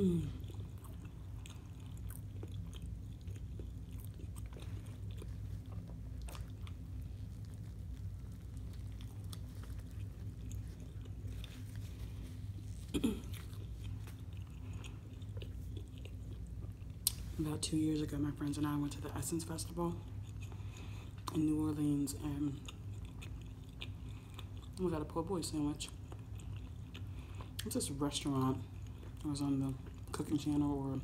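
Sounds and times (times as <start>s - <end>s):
wet chewing with small crunches: 0.0s - 31.0s.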